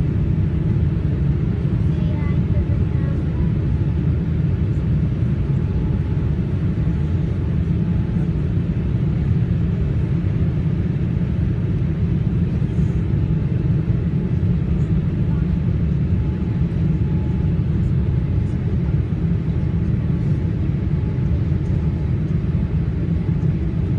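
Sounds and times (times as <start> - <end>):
airliner cabin noise: 0.0 - 23.9.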